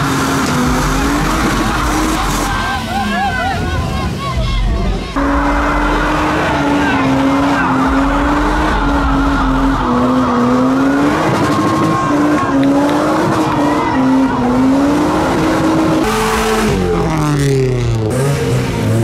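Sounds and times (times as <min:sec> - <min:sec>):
car engine revving high: 0:00.0 - 0:03.4, 0:04.8 - 0:19.0.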